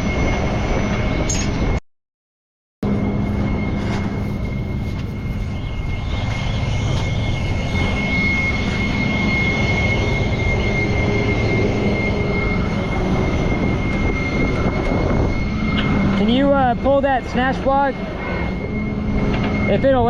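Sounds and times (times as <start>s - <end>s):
high-pitched whine: 0.0s - 1.8s, 2.8s - 20.0s
tow truck engine drone: 2.8s - 20.0s.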